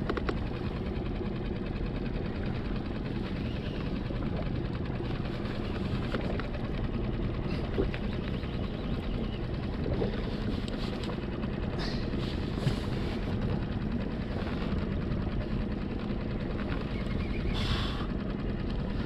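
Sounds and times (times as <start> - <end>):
small outboard motor running: 0.0 - 19.0.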